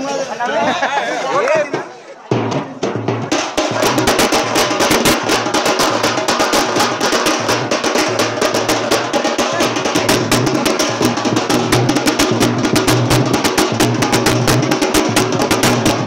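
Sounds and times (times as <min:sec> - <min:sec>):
fast drumming: 0:01.6 - 0:16.0.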